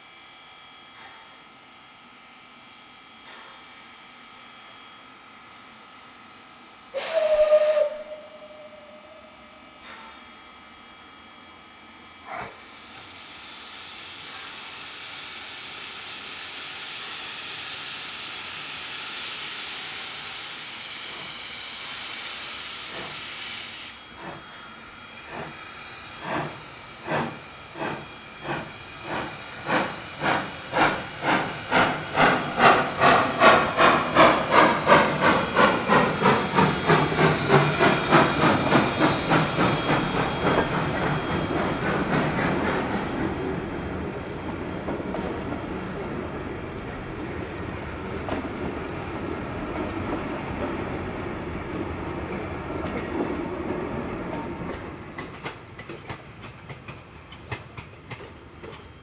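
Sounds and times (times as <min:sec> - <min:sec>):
steam locomotive hissing steam: 0:00.0 - 0:59.0
steam locomotive exhaust chuffing: 0:06.8 - 0:59.0.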